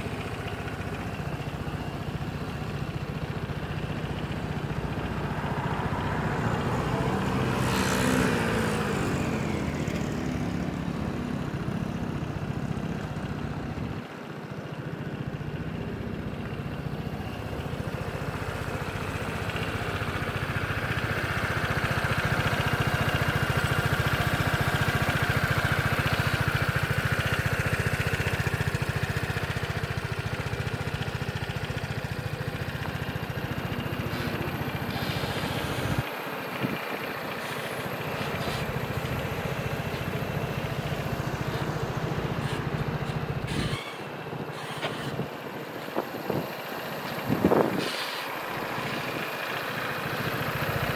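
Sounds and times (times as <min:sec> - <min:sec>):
scooter engine idling: 0:00.0 - 0:50.9.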